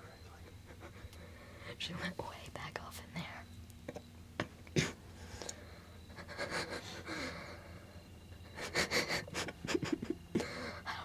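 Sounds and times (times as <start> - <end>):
hushed breathing and sniffing: 0.0 - 3.5, 4.7 - 11.0.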